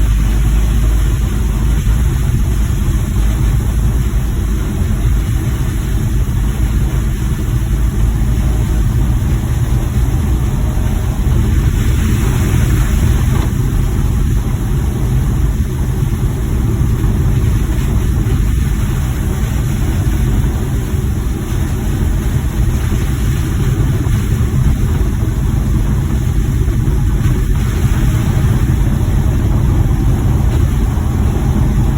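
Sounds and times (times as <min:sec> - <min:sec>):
van engine and road noise: 0:00.0 - 0:31.9.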